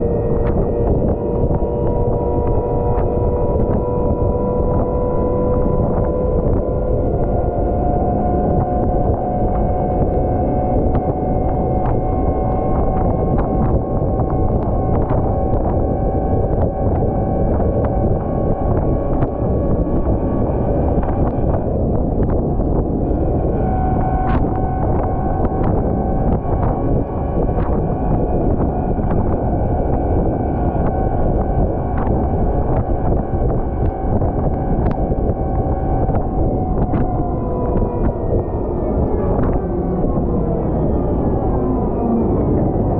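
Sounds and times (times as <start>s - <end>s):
constant machine whine: 0.0s - 42.9s
wheel loader diesel drone: 0.0s - 42.9s
wind noise on microphone: 0.0s - 42.9s.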